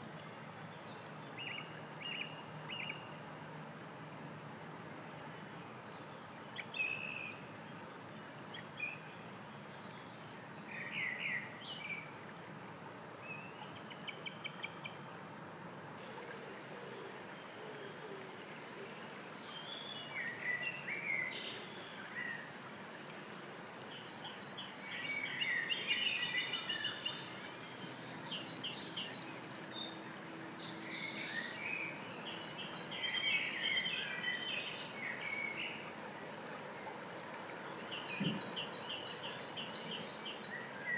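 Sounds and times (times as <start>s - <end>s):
songbirds singing: 0.0s - 3.2s, 5.2s - 12.2s, 13.2s - 15.1s, 16.0s - 40.9s
stream babbling over stones: 0.0s - 40.9s.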